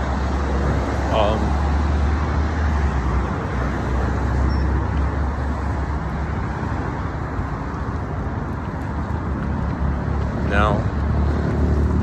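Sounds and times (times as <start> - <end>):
passing cars hiss and rumble: 0.0 - 12.0.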